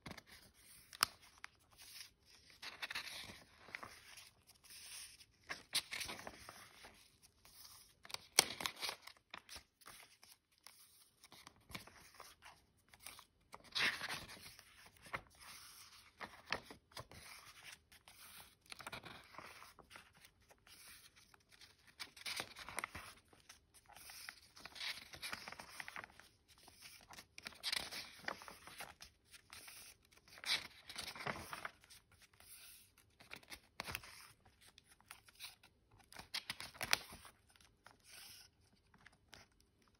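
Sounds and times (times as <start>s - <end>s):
paper pages turning: 0.0s - 39.9s.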